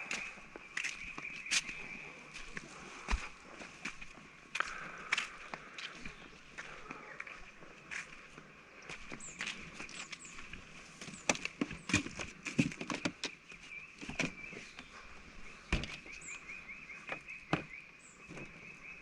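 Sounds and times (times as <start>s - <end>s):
footsteps on ground: 0.0s - 19.0s.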